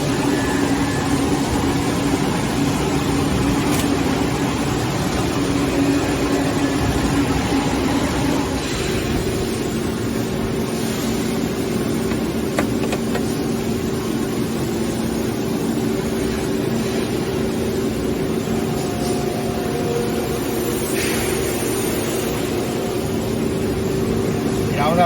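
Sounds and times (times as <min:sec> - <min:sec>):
industrial machinery hum: 0:00.0 - 0:25.0.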